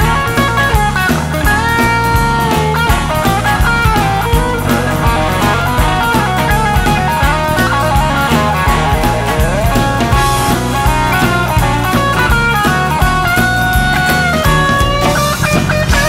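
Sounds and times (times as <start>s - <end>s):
drum kit beat: 0.0s - 16.0s
electric guitar with bent notes: 0.0s - 16.0s.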